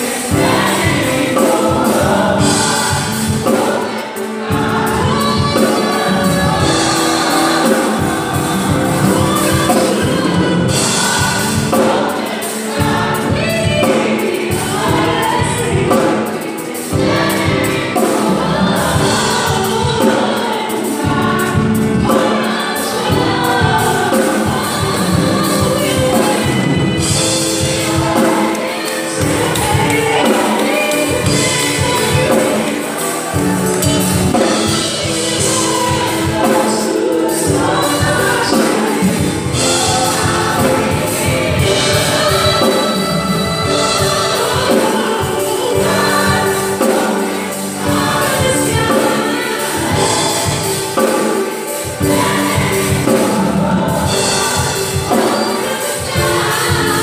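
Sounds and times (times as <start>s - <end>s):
gospel choir singing: 0.0s - 57.0s
instrumental backing with beat: 0.0s - 57.0s.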